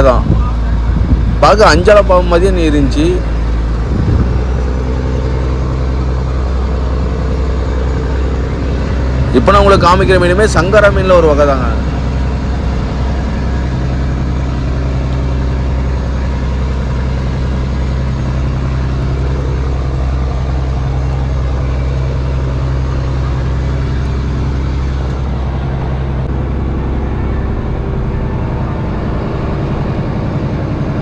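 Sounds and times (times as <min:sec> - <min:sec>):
diesel boat engine droning: 0:00.0 - 0:31.0.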